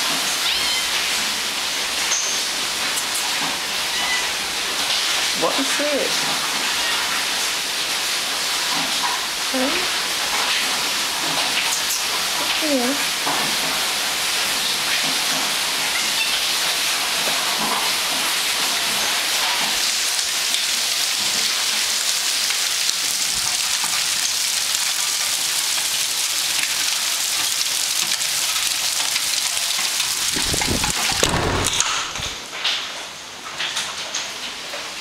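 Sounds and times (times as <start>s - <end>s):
hail and rain pelting: 0.0s - 35.0s.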